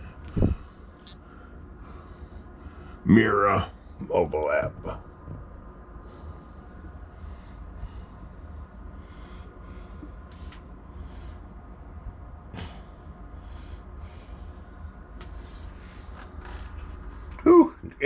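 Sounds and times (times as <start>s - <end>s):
soft breaths: 0.0s - 4.0s, 4.8s - 18.0s
heater humming and blowing air: 0.0s - 18.0s.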